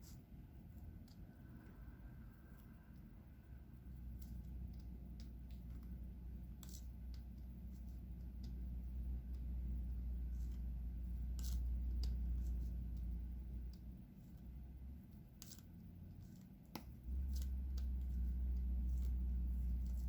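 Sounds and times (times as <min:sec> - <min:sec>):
low hum: 0:00.0 - 0:16.2.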